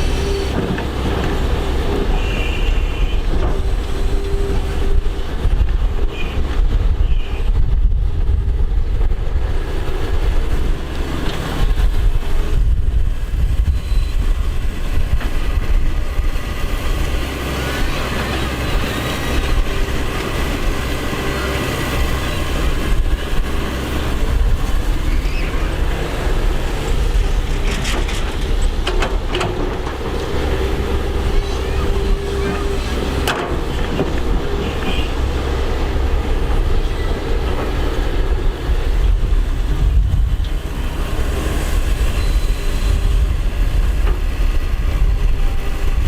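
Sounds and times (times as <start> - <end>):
excavator engine droning: 0.0 - 6.9, 7.6 - 46.0.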